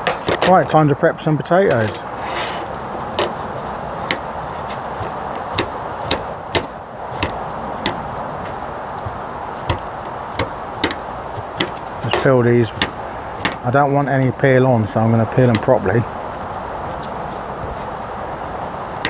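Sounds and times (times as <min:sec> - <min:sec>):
potatoes clicking and knocking: 0:00.0 - 0:01.0, 0:01.6 - 0:19.0
steady rushing hiss: 0:00.0 - 0:19.0.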